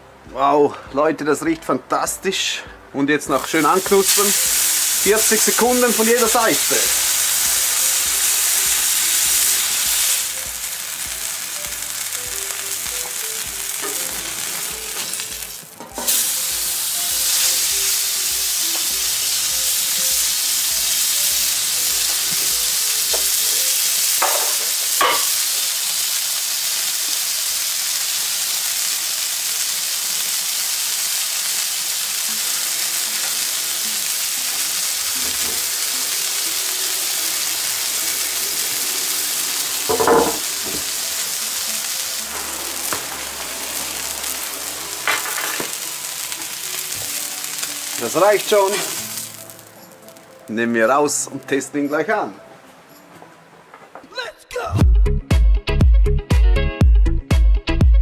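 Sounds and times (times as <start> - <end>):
fish sizzling on hot plate: 3.4 - 51.4.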